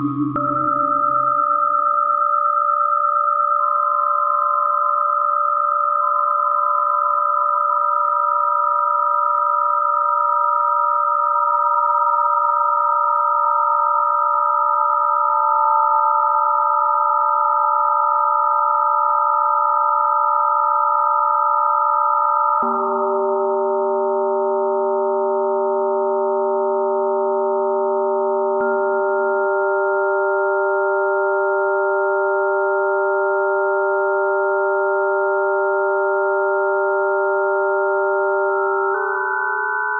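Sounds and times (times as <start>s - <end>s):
chord of pure sine tones: 0.0s - 39.9s.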